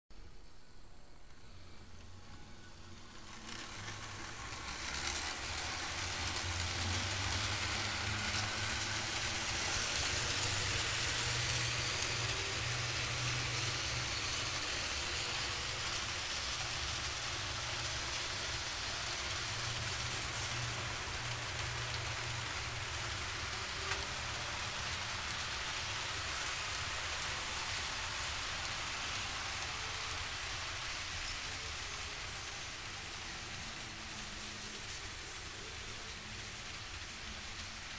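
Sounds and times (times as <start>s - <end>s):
model train wheels rattling: 2.3s - 37.9s.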